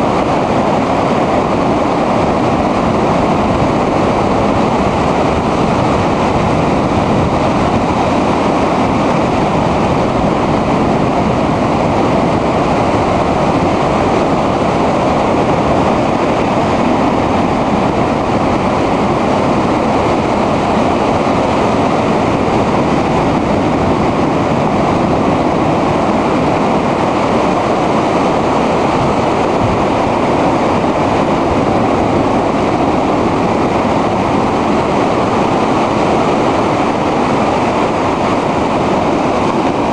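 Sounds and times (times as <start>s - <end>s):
storm surf breaking over rocks: 0.0s - 39.9s.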